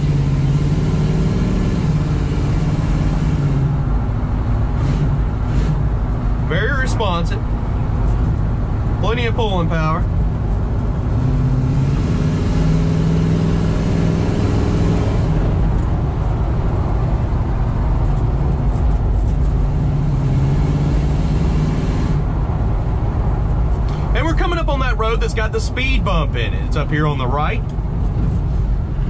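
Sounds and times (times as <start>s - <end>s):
road and tyre noise: 0.0s - 29.0s.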